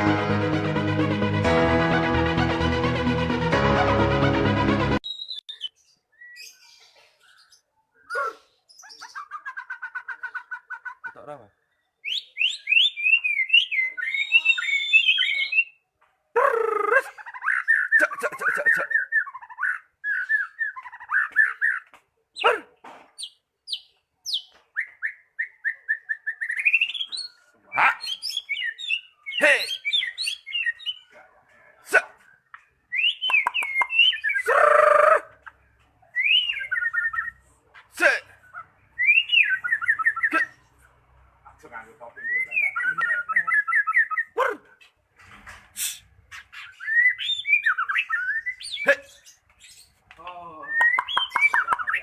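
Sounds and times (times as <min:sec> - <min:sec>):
bird singing warbled phrases: 0:05.0 - 0:44.9, 0:45.8 - 0:52.0.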